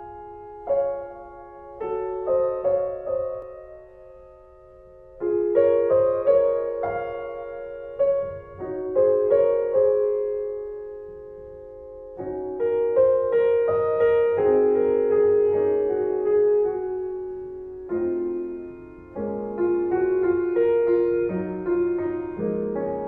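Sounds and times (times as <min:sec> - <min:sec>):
soft solo piano music: 0:00.0 - 0:23.0.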